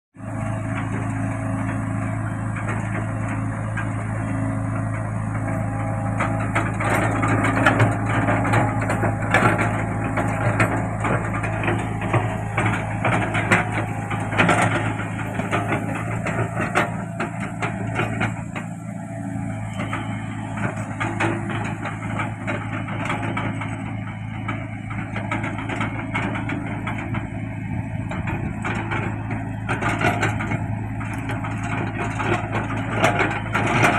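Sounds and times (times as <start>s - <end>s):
excavator diesel engine running: 0.2s - 33.9s
machine clanks and knocks: 0.5s - 33.9s.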